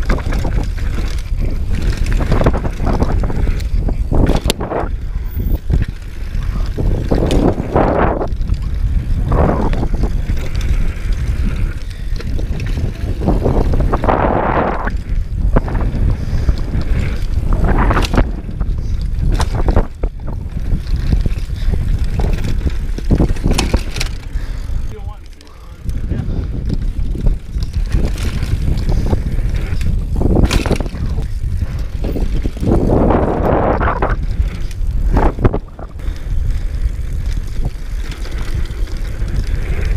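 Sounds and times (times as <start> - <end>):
bike rattling over bumps: 0.0 - 39.9
tyre noise on loose dirt: 0.0 - 39.9
wind rumble on microphone: 0.0 - 39.9.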